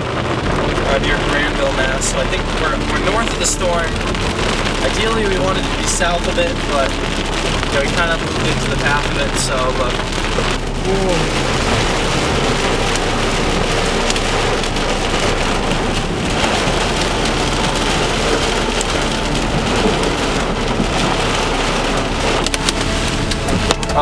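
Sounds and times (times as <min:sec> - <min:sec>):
hail ticking on car: 0:00.0 - 0:24.0
heavy rain on car roof: 0:00.0 - 0:24.0.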